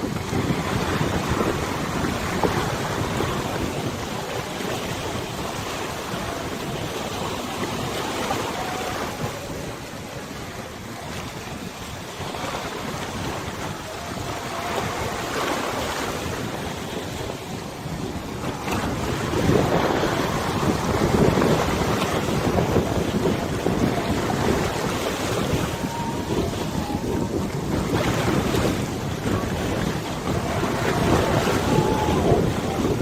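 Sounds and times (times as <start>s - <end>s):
river water lapping: 0.0s - 33.0s
wind rumbling on microphone: 0.0s - 33.0s.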